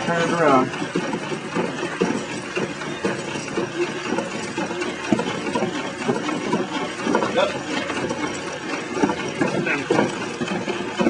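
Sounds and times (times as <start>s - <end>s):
machine mechanical clatter: 0.0s - 11.0s.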